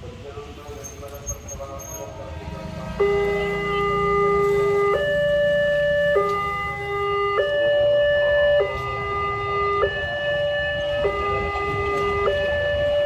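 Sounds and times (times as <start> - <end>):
two-tone crossing alarm: 1.4 - 13.0.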